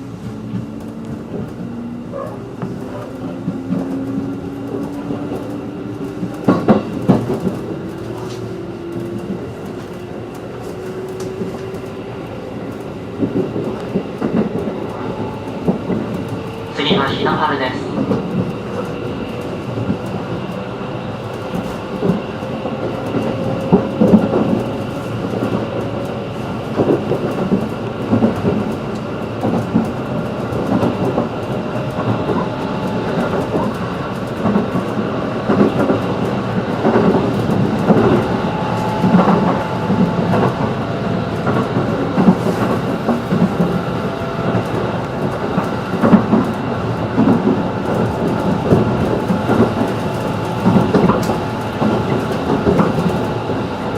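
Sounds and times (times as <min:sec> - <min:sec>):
train car rumbling: 0:00.0 - 0:53.9.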